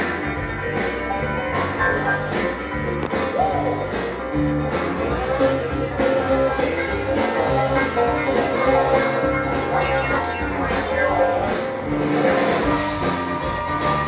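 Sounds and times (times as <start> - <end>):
music from a vinyl record: 0.0 - 14.0.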